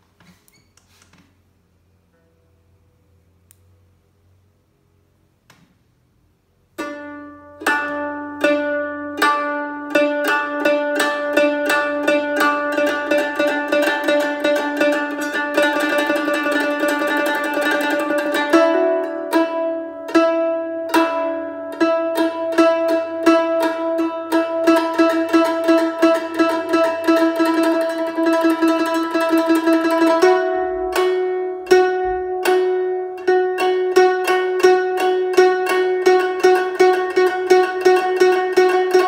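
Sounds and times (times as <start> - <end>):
plucked zither tremolo: 6.8 - 39.0.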